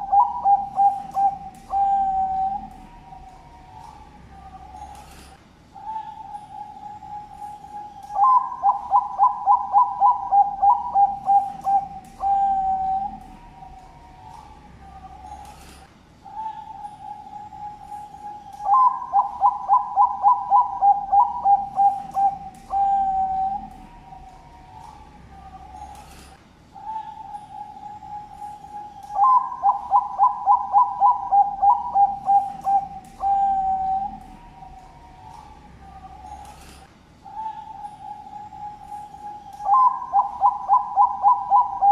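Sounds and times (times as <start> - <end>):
dove cooing: 0.0 - 41.9
faint drawn-out coo: 0.0 - 41.9.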